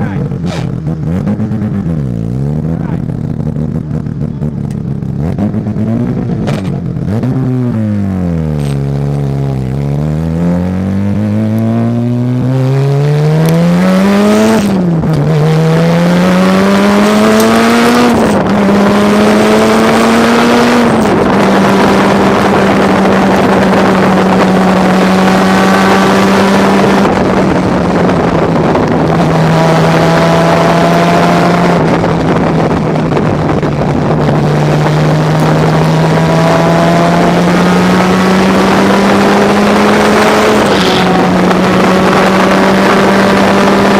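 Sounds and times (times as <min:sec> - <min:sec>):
race car engine accelerating: 0:00.0 - 0:43.9.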